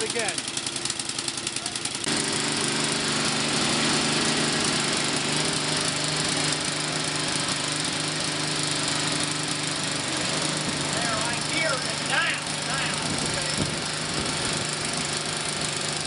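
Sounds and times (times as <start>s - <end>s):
snow blower engine running: 0.0s - 16.0s.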